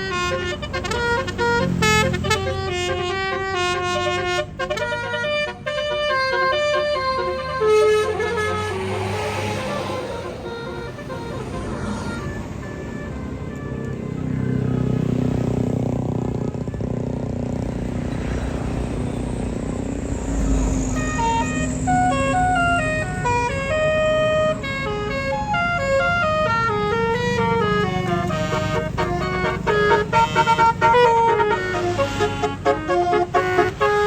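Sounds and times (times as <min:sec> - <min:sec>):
air-horn trumpets playing a tune: 0:00.0 - 0:14.4, 0:21.0 - 0:34.0
bus engine running: 0:00.0 - 0:34.0.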